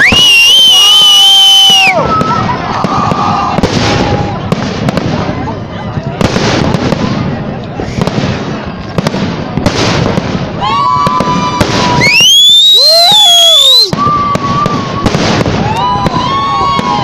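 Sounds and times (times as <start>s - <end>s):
fireworks crackling and bangs: 0.0s - 17.0s
whistling fireworks: 0.0s - 17.0s.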